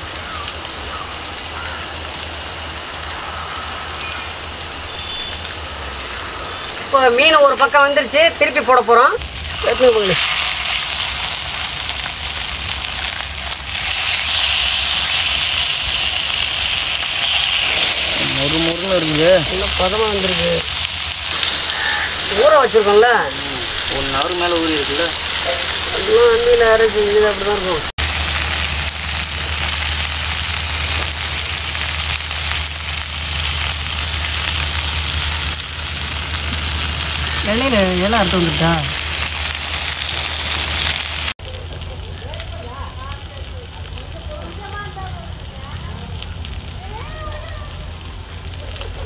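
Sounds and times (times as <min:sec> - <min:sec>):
fish sizzling in a frying pan: 0:09.2 - 0:49.0.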